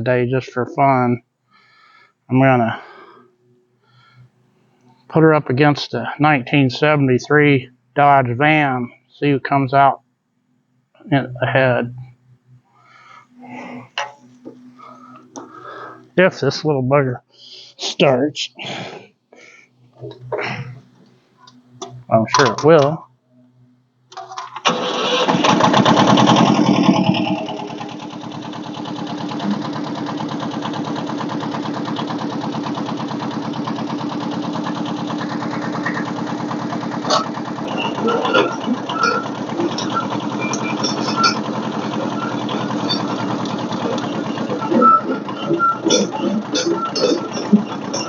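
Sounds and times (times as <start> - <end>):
engine starting and idling: 0.8 - 8.9, 11.1 - 16.3, 18.7 - 48.0.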